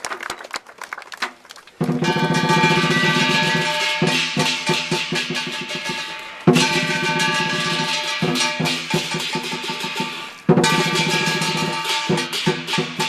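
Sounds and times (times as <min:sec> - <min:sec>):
cymbals crashing: 0:01.8 - 0:13.0
drum beat: 0:01.8 - 0:13.0
gong: 0:01.9 - 0:13.0.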